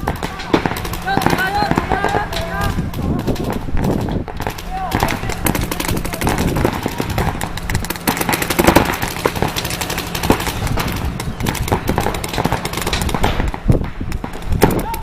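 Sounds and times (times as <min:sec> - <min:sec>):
rapid sharp cracks and knocks: 0:00.0 - 0:15.0.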